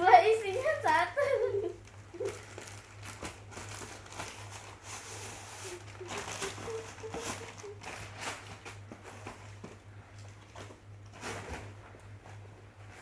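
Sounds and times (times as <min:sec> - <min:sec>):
package wrapping rustling: 0:01.7 - 0:13.0.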